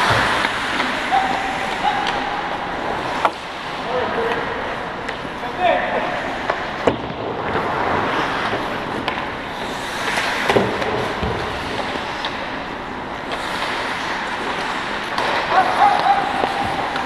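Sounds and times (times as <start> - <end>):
hockey sticks and puck clacking: 0.0 - 17.0
skates scraping ice: 0.0 - 17.0.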